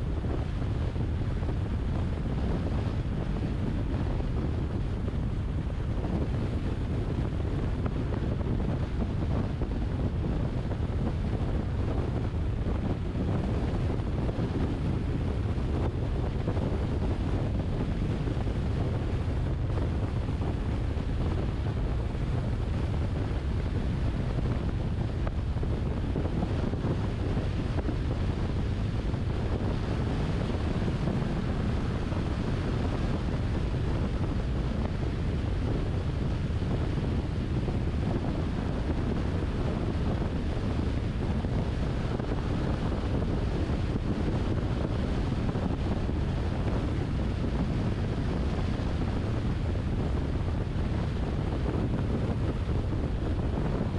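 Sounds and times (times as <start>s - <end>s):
car road and wind rumble: 0.0s - 53.9s.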